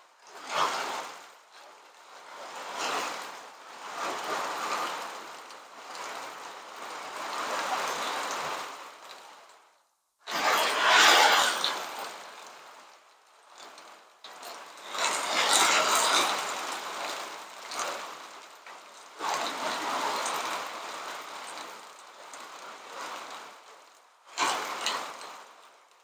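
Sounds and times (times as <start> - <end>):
wind gusts: 0.0 - 25.8
heavy rain: 0.0 - 26.0.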